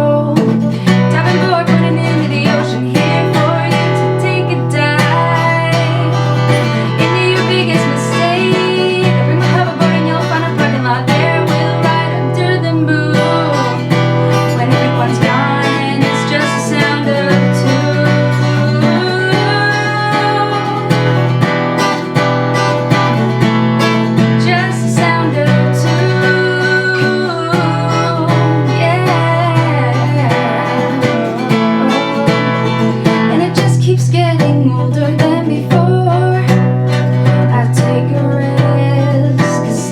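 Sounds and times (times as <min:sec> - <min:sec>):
strummed acoustic guitar: 0:00.0 - 0:39.9
woman singing: 0:00.0 - 0:39.9.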